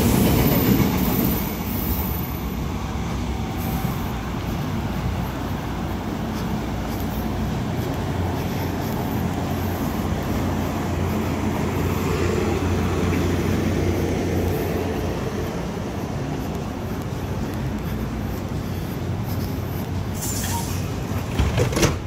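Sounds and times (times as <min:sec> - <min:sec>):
standing train low hum: 0:00.0 - 0:22.0.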